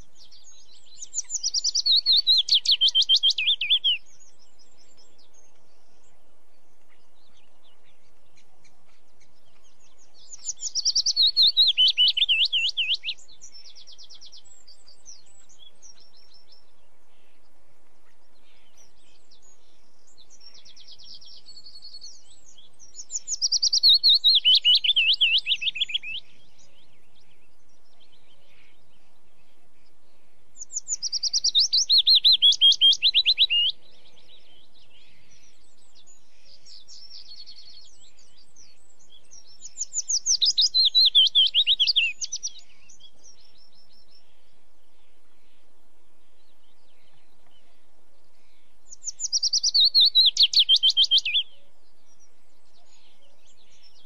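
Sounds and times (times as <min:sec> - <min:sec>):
faint high chirps and trills: 0:00.0 - 0:54.0
songbird trilled phrases: 0:00.2 - 0:05.6, 0:06.9 - 0:17.4, 0:18.0 - 0:29.0, 0:30.6 - 0:44.6, 0:46.4 - 0:54.0.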